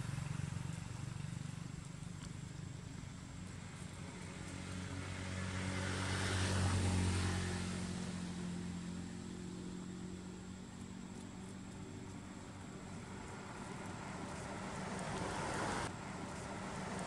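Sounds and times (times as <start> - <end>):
vehicle driving past: 0.0 - 17.0.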